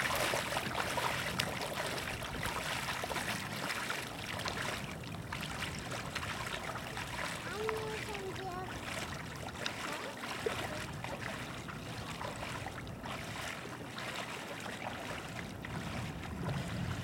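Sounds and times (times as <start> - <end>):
bare feet splashing through water: 0.0 - 17.0
wash of water: 0.0 - 17.0.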